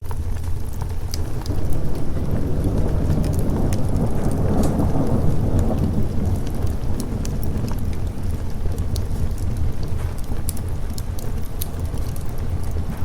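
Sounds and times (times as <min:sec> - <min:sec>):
sharp crackles: 0:00.0 - 0:13.0
steady rain: 0:00.0 - 0:13.0
thunder rumbling: 0:00.1 - 0:13.0.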